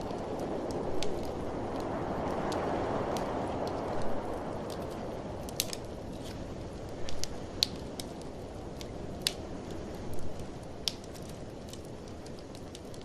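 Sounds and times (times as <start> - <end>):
blizzard wind rushing: 0.0 - 13.0
sharp pops of fire: 0.0 - 13.0
wood fire crackling: 0.0 - 13.0.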